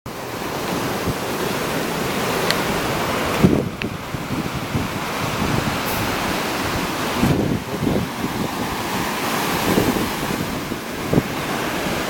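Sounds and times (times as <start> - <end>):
surf breaking on beach: 0.1 - 12.0
wind buffeting microphone: 0.1 - 12.0.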